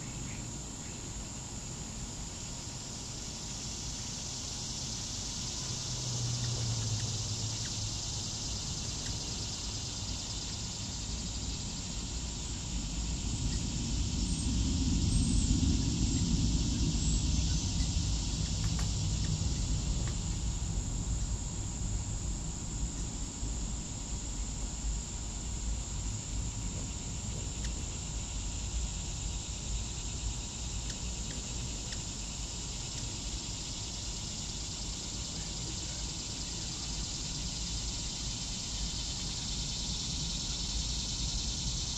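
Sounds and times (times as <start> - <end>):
insects hissing: 0.0 - 41.9.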